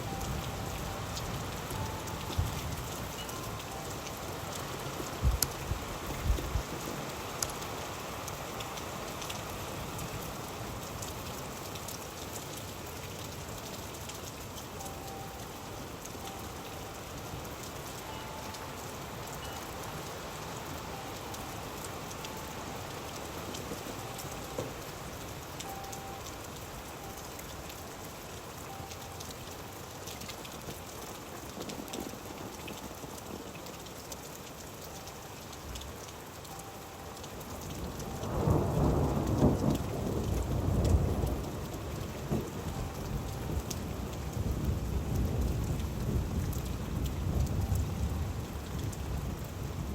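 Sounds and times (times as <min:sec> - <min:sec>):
rain drops ticking on a surface: 0:00.0 - 0:49.9.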